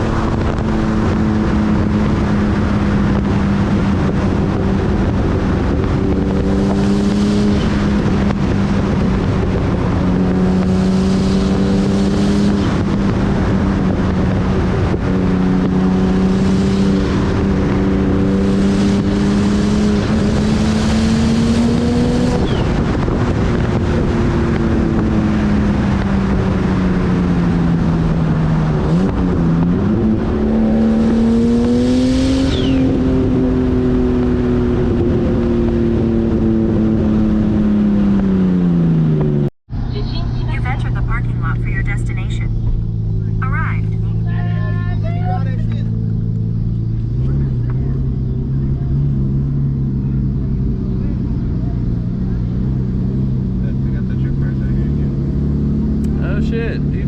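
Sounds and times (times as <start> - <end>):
car engine droning: 0.0 - 57.0
road and wind noise: 0.0 - 57.0.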